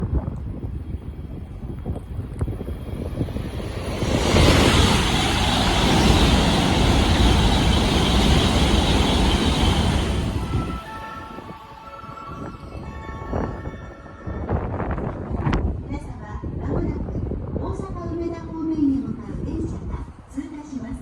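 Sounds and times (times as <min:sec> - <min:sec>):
high-speed train passing: 0:00.0 - 0:18.6
wind buffeting microphone: 0:00.0 - 0:20.3.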